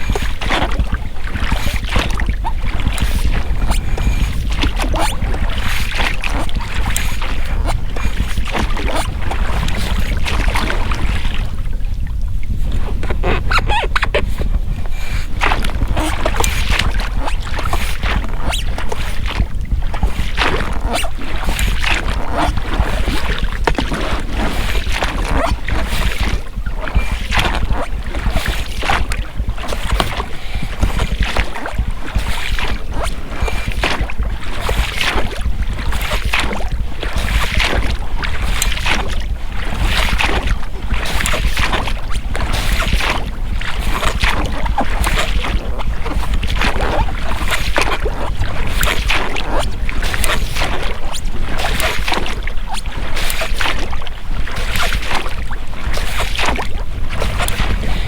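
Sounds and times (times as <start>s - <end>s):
rubber rowlocks creaking: 0.0s - 11.6s, 12.4s - 58.0s
oars splashing in water: 0.0s - 58.0s.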